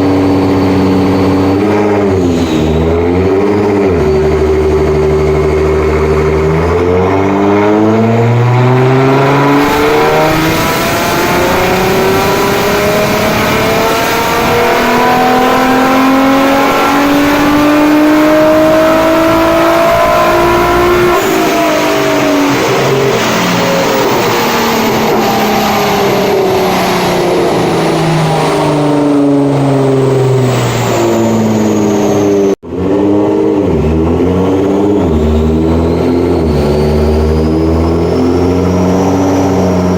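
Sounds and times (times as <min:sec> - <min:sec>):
car engine revving on a dyno: 0:00.0 - 0:39.9.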